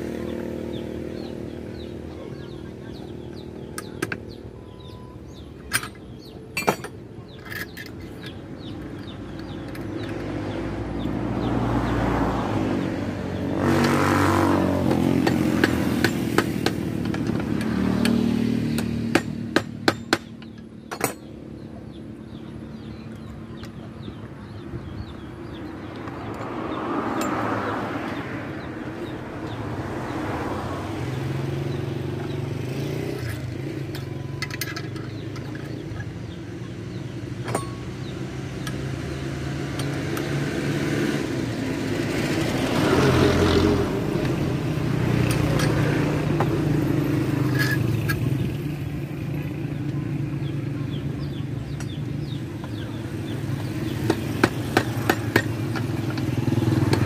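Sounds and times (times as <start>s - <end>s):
motor vehicle engine running: 0.0s - 57.0s.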